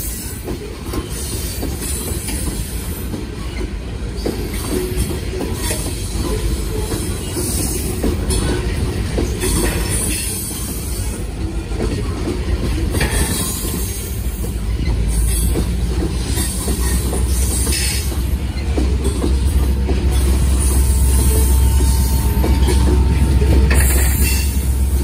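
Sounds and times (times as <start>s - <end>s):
train cars rolling on rails: 0.0s - 25.0s
deep diesel locomotive rumble: 3.8s - 25.0s.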